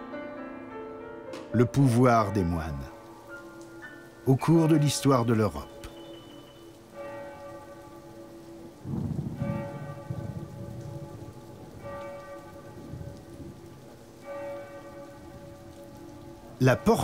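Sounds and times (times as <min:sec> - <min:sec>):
steady rain: 0:01.0 - 0:17.0
church bell tolling: 0:01.4 - 0:17.0.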